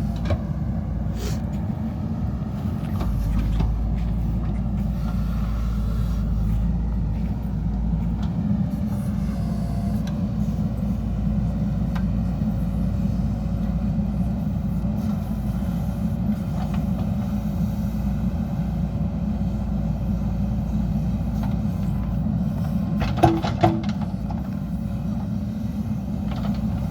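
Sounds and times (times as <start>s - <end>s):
diesel engine rumbling: 0.0s - 26.9s.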